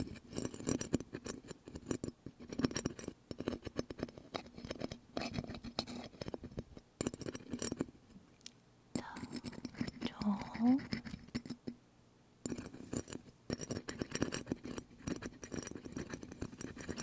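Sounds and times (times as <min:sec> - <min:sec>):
clicking and scratching on microphone: 0:00.0 - 0:07.9, 0:09.0 - 0:11.8, 0:12.5 - 0:17.0.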